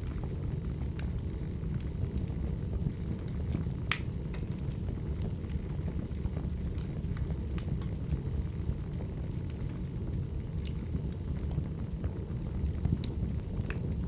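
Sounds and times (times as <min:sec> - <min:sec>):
firewood crackling: 0:00.0 - 0:14.0
low rumble of flames: 0:00.0 - 0:14.0.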